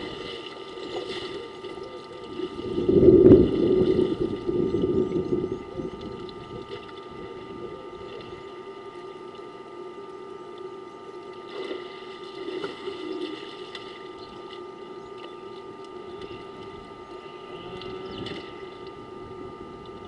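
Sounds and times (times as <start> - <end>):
water sloshing and splashing: 0.0 - 19.1
electrical hum with thin tones: 0.0 - 20.0.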